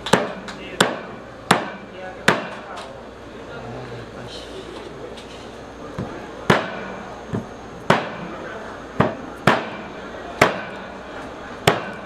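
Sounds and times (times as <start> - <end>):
market background hum: 0.0 - 12.0.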